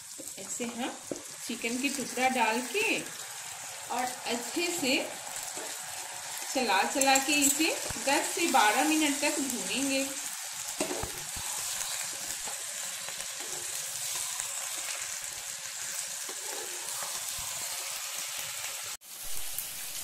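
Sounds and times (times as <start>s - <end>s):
steel spatula turning food: 0.0s - 10.1s, 10.7s - 18.8s
chicken sizzling in hot oil: 0.0s - 20.0s.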